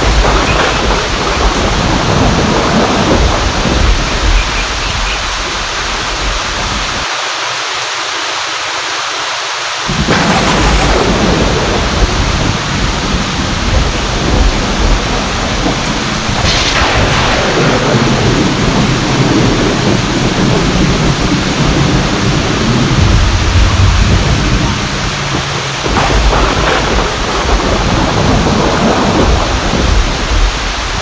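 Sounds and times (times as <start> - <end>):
rolling thunder: 0.0 - 7.0, 9.9 - 31.0
heavy rain: 0.0 - 31.0.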